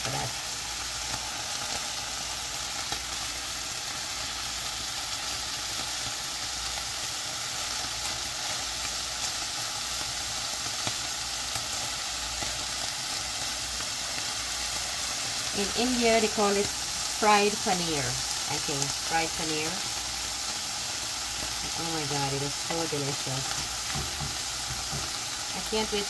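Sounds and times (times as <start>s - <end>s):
paneer sizzling in hot oil: 0.0s - 26.0s.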